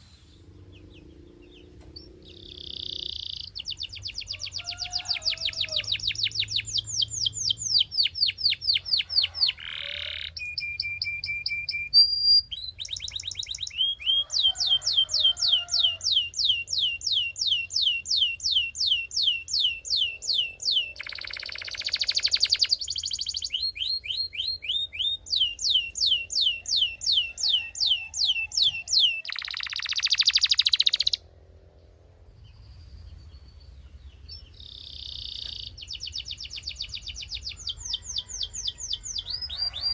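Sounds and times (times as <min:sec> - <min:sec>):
canary singing: 0:00.0 - 0:31.3, 0:33.9 - 0:39.9.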